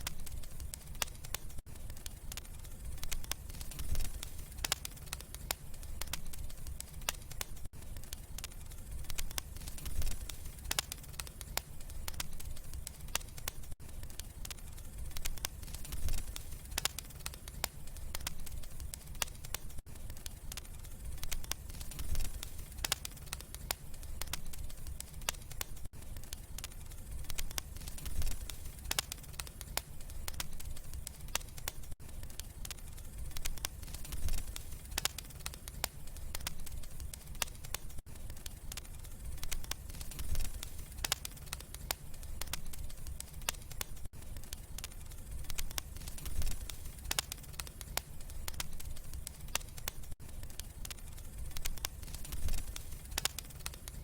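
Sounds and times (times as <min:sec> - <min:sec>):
low rumble of flame: 0:00.0 - 0:54.0
wood fire crackling and popping: 0:00.0 - 0:54.0.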